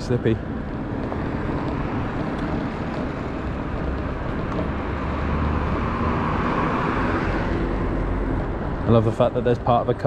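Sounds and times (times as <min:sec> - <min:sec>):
tyre noise on pavement: 0:00.2 - 0:09.2.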